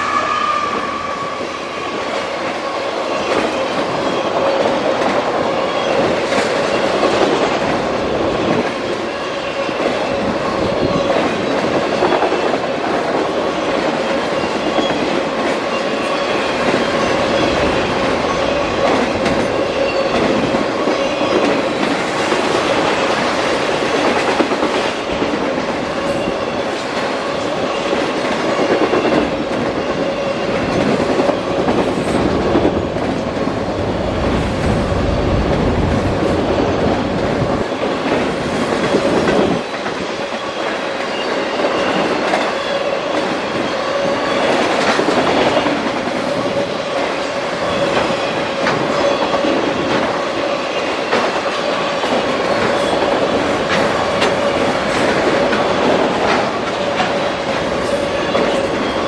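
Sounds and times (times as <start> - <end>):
wheel squeal on rail: 0.0 - 7.4, 8.3 - 25.1, 25.7 - 32.8, 37.4 - 59.0
low train rumble: 0.0 - 59.0
train wheels clacking on rails: 0.0 - 59.0.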